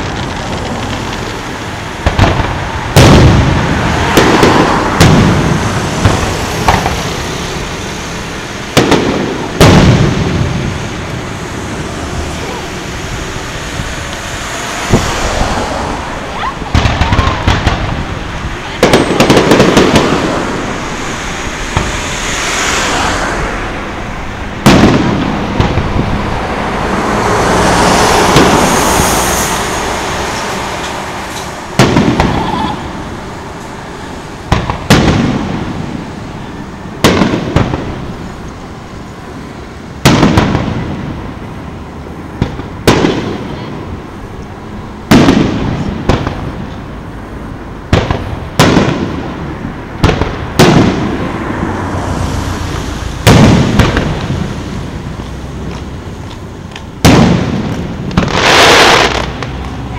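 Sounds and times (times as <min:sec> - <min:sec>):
firework shells booming with echo: 0:00.0 - 0:15.6, 0:16.5 - 0:22.7, 0:24.2 - 0:38.6, 0:39.9 - 0:46.9, 0:47.8 - 0:51.6, 0:52.5 - 0:59.9.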